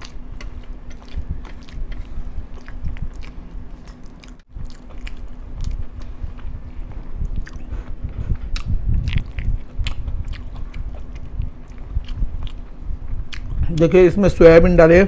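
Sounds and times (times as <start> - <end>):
man chewing loudly: 0.0 - 13.8.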